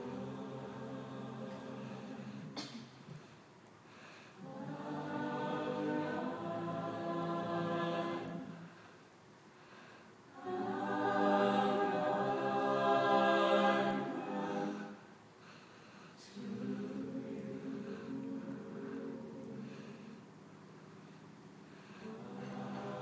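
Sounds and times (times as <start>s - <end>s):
a cappella group singing chords: 0.0s - 3.3s, 3.9s - 23.0s.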